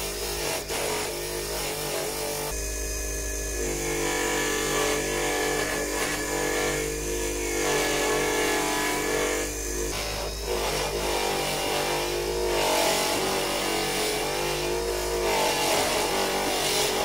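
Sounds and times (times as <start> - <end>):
polishing motor humming: 0.0 - 17.0.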